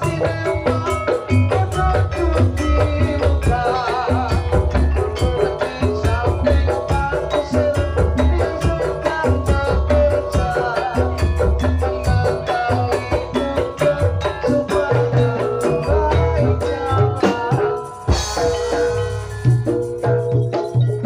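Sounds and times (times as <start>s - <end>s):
drums keeping rhythm: 0.0s - 21.0s
metallophone melody: 0.0s - 21.0s.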